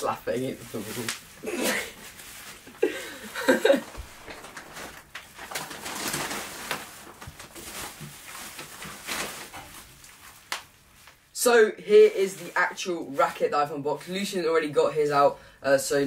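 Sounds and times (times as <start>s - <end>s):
bubble wrap crinkling: 0.0s - 11.3s, 12.0s - 13.6s.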